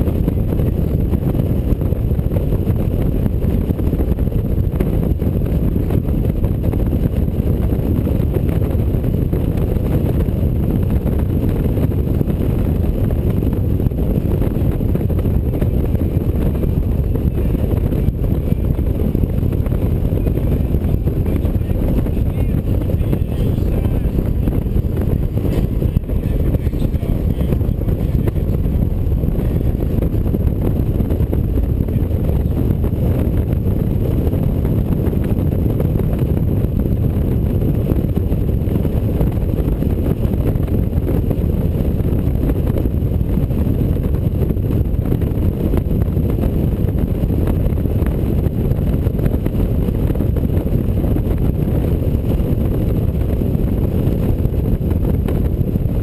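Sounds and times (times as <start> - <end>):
road noise: 0.0 - 56.0
wind rushing past microphone: 0.0 - 56.0.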